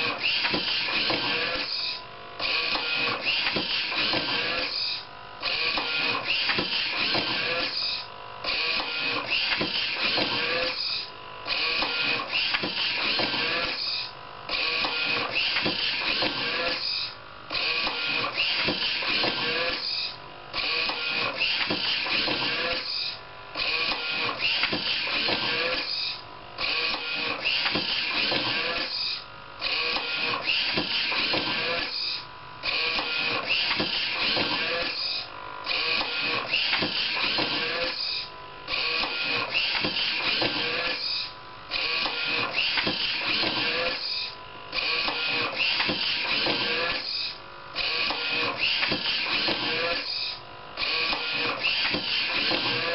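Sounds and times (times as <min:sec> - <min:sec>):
motor whining: 0:00.0 - 0:52.9.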